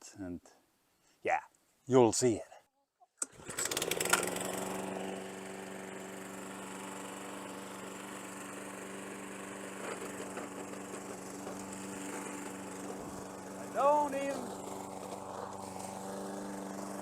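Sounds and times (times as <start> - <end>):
lawn mower engine running: 3.2 - 17.0.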